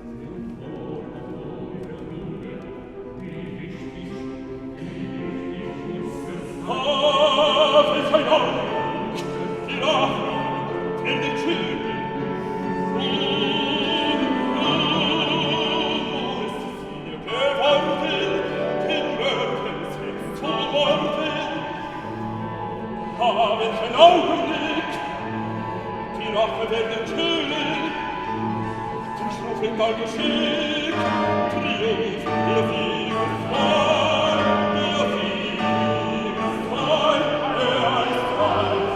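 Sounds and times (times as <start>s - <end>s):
instrumental accompaniment: 0.0s - 38.9s
operatic singing: 0.0s - 38.9s.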